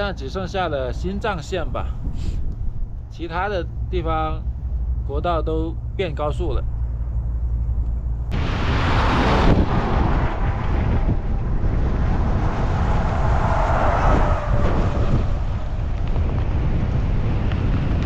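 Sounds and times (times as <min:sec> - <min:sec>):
gale wind buffeting microphone: 0:00.0 - 0:05.1, 0:06.6 - 0:18.0
road traffic rumble: 0:00.0 - 0:18.0.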